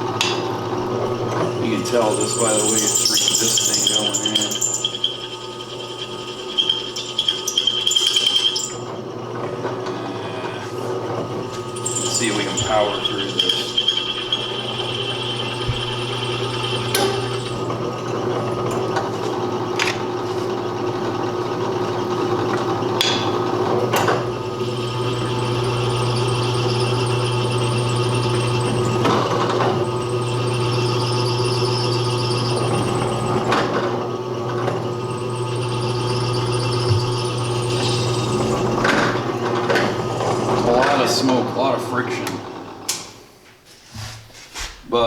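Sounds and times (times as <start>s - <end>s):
electric drill grinding through metal: 0.0s - 43.0s.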